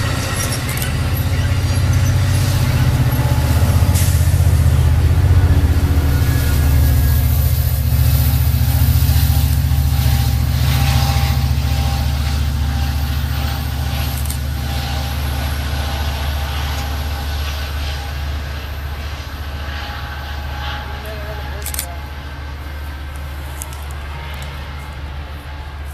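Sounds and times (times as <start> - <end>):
diesel locomotive drone: 0.0 - 25.9
train wheels rumbling on rails: 0.0 - 25.9.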